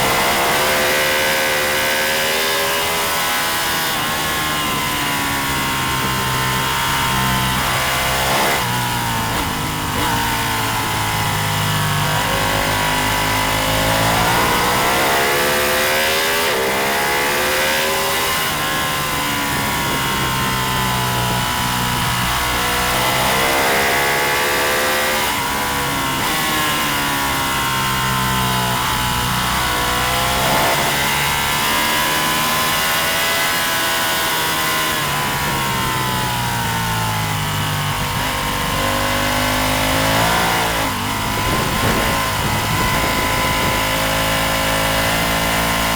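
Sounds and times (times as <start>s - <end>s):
racing motorcycle engine revving: 0.0s - 45.9s.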